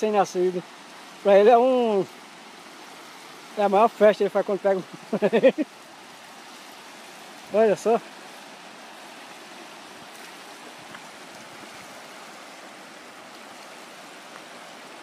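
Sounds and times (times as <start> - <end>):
river flowing over rapids: 0.0 - 15.0.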